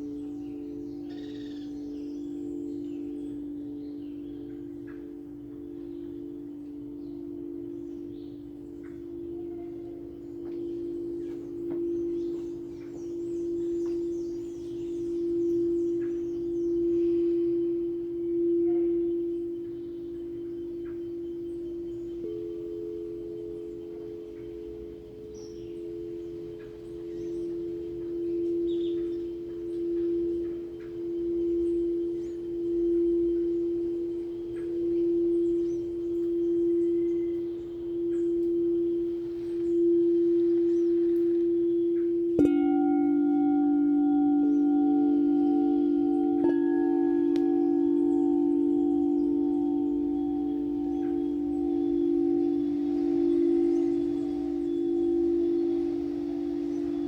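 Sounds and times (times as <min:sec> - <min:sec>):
higher singing bowl tone: 0:00.0 - 0:57.0
low singing bowl tone: 0:00.0 - 0:57.0.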